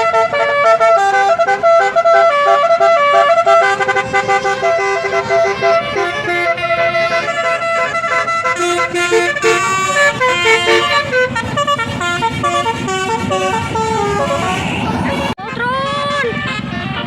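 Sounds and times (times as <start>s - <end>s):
musical air horn playing tune: 0.0s - 15.4s.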